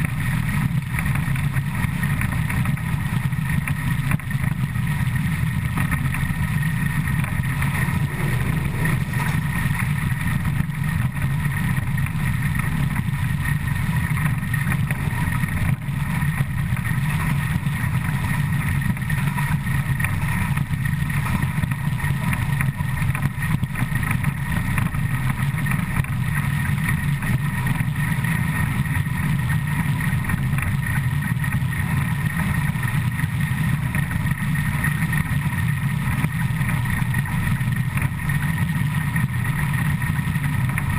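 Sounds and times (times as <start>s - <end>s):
locomotive wheels running on rails: 0.0s - 40.9s.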